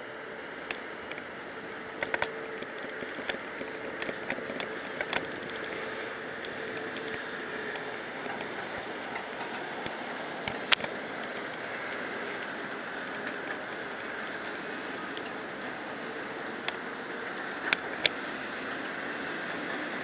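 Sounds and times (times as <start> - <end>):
distant road traffic hum: 0.0 - 20.0.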